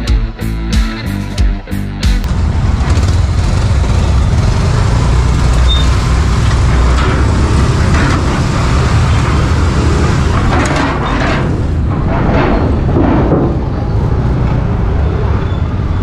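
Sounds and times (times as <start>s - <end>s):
motorcycle engines rumbling: 2.2s - 16.0s
traffic noise: 2.2s - 16.0s.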